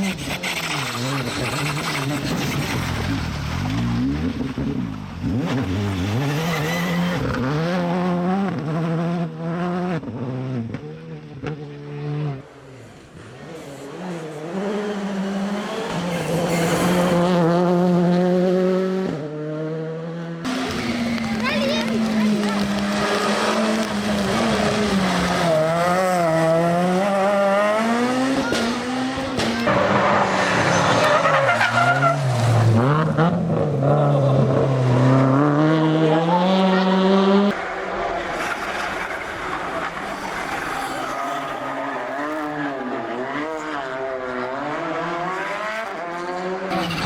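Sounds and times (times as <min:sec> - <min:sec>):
tyres skidding: 0:00.0 - 0:08.8, 0:10.7 - 0:19.4, 0:20.4 - 0:47.0
rally car engines revving: 0:00.0 - 0:47.0.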